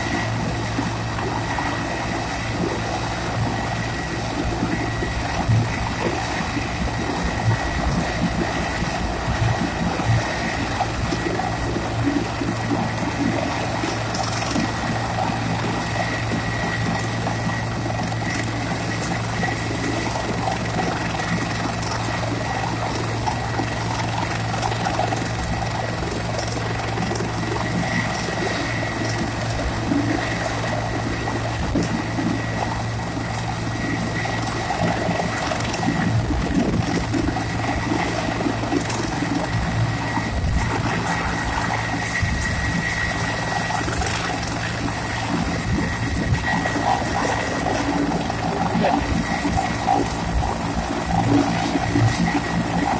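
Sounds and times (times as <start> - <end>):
helicopter running: 0.0 - 52.9.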